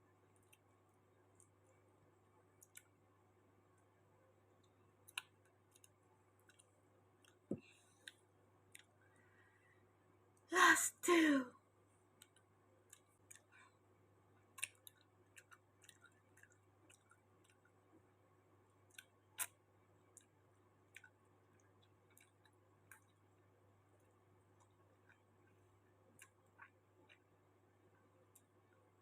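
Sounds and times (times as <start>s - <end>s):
faint chewing: 0.2s - 3.1s, 3.7s - 9.8s, 12.1s - 29.0s.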